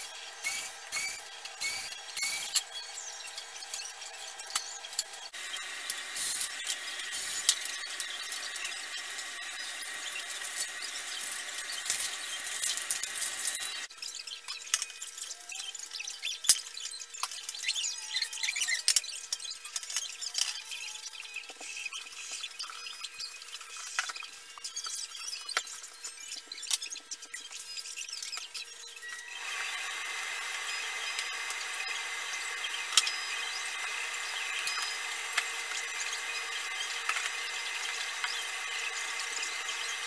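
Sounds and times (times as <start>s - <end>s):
small clicks and squeaks: 0.0s - 29.9s, 30.5s - 40.0s.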